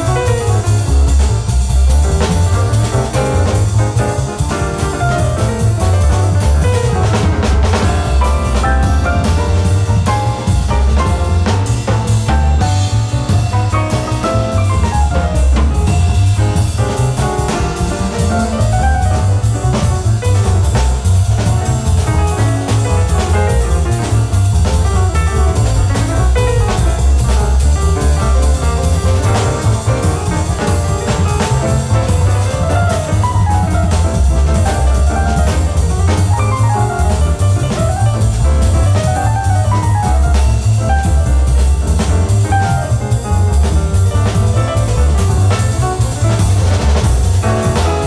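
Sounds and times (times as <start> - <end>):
double bass line: 0.0 - 48.0
drum kit with cymbal strokes: 0.0 - 48.0
piano: 0.0 - 48.0.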